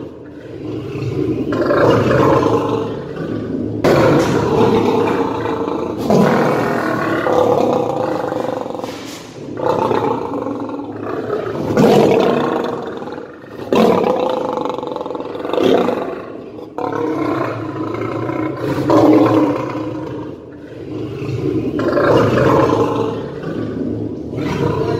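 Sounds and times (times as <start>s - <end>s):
lion roaring: 0.0s - 24.9s.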